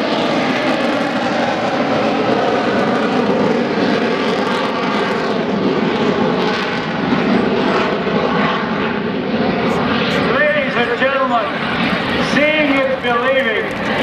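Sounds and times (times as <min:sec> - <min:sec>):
jet flying overhead: 0:00.0 - 0:14.0.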